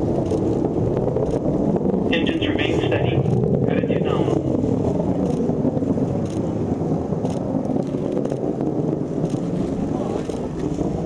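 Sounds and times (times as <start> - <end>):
distant rocket rumble: 0.0 - 11.0.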